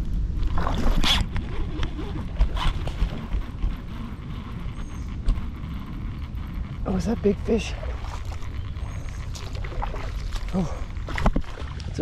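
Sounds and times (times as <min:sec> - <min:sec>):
steady low rumble: 0:00.0 - 0:12.0
fishing reel whirring: 0:01.1 - 0:11.1.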